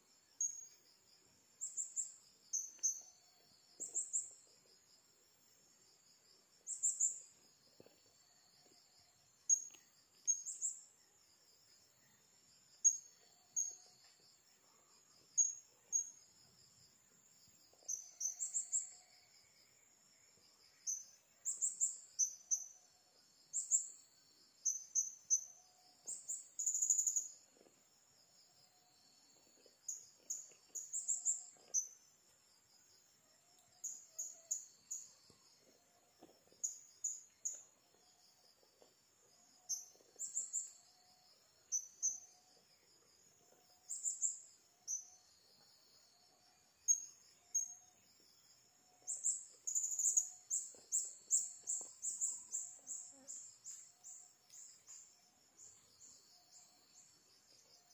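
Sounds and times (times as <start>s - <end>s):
faint insect trill: 0.0s - 57.9s.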